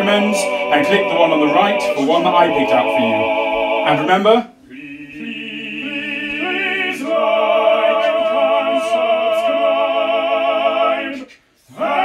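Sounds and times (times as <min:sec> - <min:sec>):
operatic singing with vibrato: 0:00.0 - 0:12.0.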